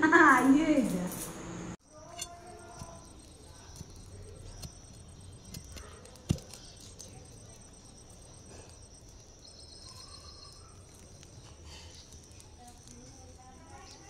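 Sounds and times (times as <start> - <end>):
insects chirring: 0.2 - 14.0.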